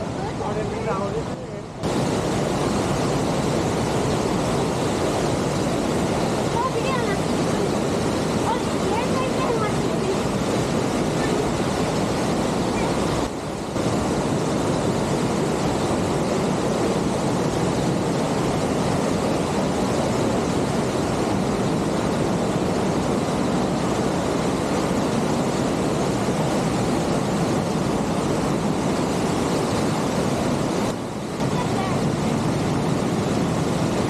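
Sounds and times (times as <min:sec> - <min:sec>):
creek rushing over rocks: 0:00.0 - 0:34.0.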